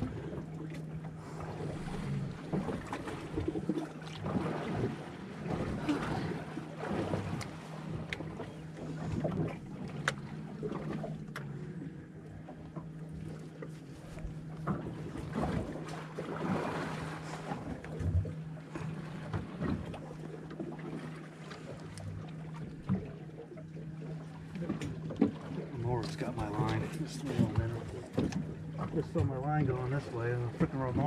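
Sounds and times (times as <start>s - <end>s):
boat engine hum: 0.0s - 31.0s
water lapping against hull: 0.0s - 31.0s.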